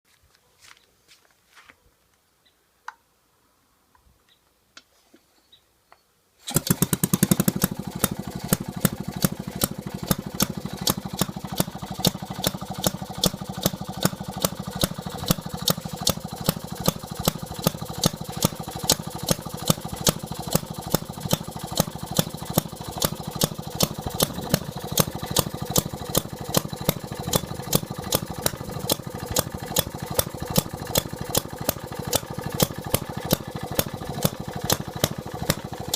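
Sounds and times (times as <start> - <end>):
gas engine running: 6.5 - 35.9.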